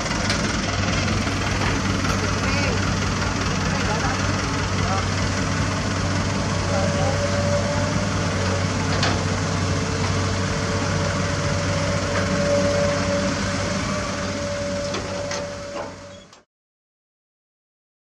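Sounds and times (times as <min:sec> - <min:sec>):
diesel engines running: 0:00.0 - 0:16.5.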